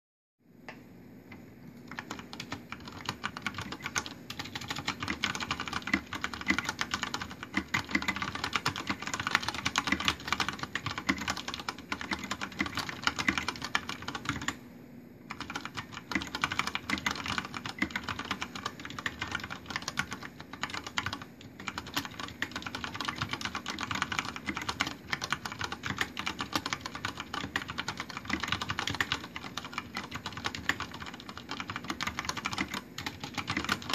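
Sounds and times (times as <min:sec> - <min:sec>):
fast mechanical keyboard typing: 0:01.8 - 0:14.6, 0:15.3 - 0:33.9.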